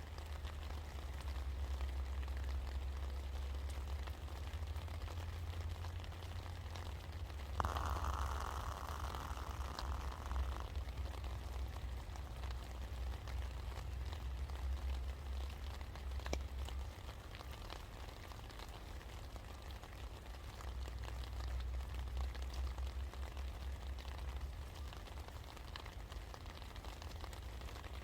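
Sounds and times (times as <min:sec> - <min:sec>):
low steady rumble: 0:00.0 - 0:28.0
rain drops ticking: 0:00.0 - 0:28.0.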